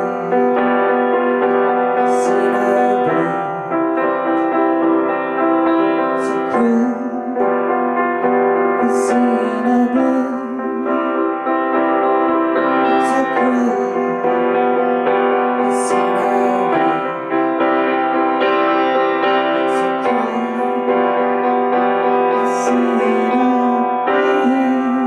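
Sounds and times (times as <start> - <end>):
piano chords: 0.0 - 25.0.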